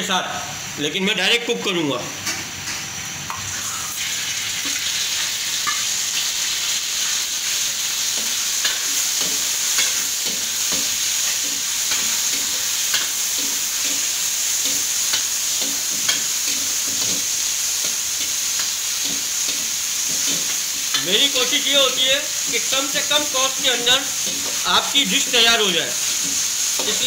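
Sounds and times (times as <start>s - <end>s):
chicken sizzling in hot oil: 2.5s - 27.0s.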